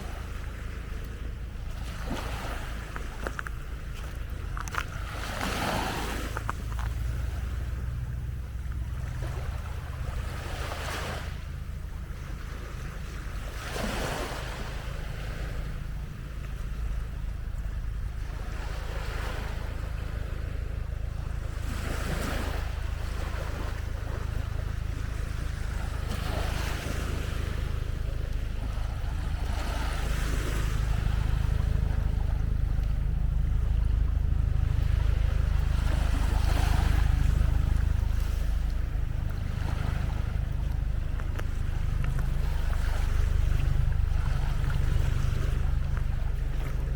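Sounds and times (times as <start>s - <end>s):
small waves washing onto beach: 0.0s - 46.9s
wind rumble on microphone: 0.0s - 46.9s.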